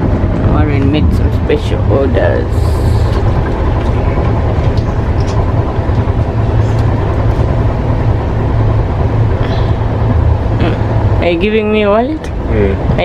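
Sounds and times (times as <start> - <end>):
train rumbling inside compartment: 0.0 - 13.0.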